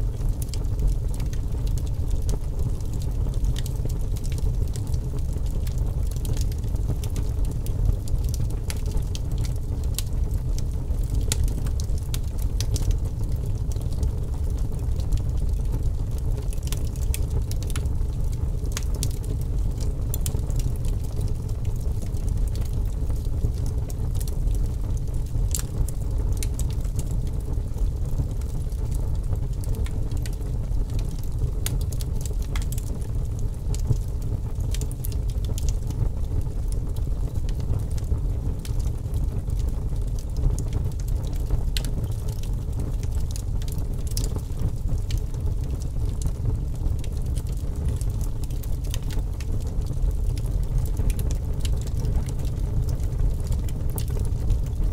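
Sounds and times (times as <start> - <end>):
fire crackling and popping: 0.0 - 54.9.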